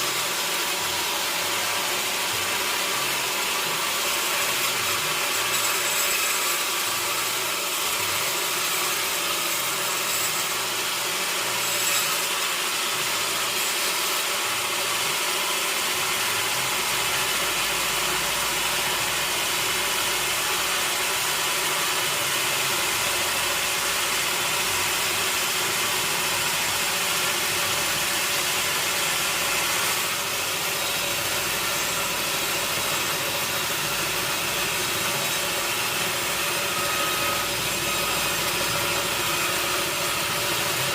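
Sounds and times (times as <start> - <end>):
sawmill saw cutting log: 0.0 - 40.9.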